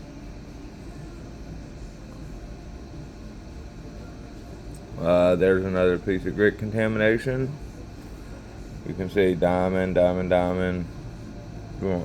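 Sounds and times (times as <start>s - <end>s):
low hum and hiss of room noise: 0.0s - 12.0s.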